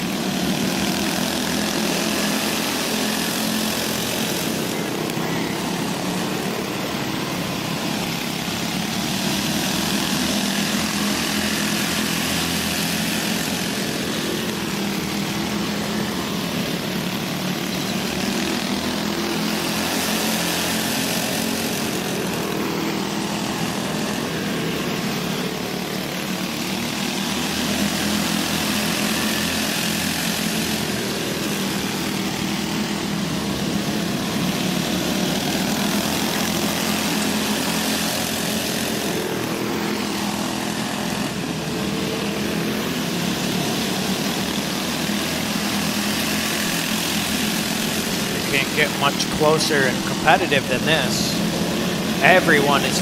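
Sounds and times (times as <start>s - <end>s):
go-kart engines buzzing: 0.0s - 53.0s.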